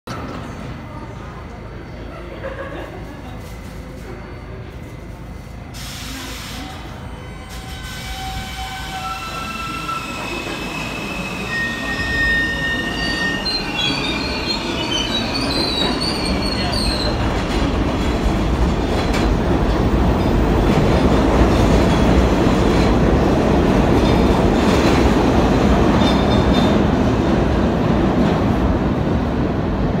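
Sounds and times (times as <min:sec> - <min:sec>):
subway cars rumbling past: 0:00.2 - 0:30.0.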